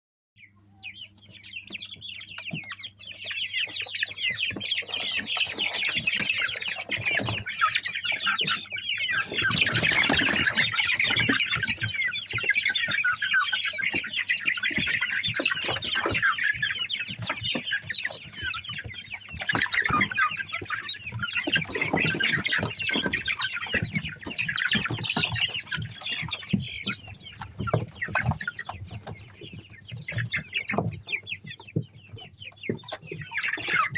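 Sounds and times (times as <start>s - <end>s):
flock of chickens calling: 0.4s - 33.9s.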